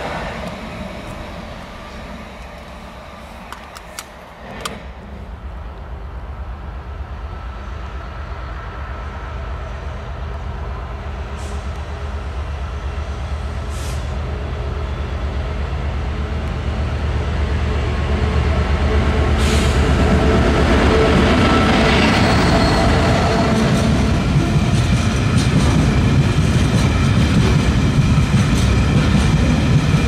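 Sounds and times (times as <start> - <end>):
diesel locomotive engine drone: 0.0 - 30.0
rail and wheel noise: 0.0 - 30.0.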